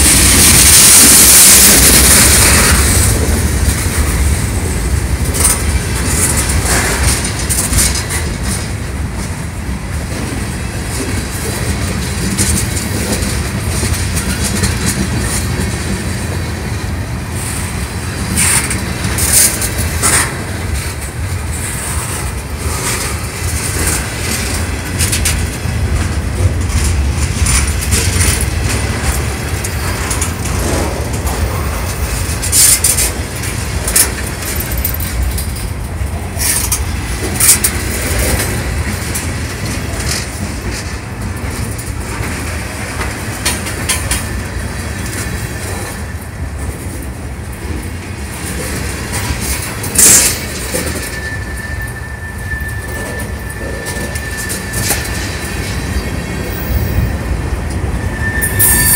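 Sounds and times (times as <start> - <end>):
train rumble: 0.0 - 58.9
wheels clicking over rail joints: 0.0 - 58.9.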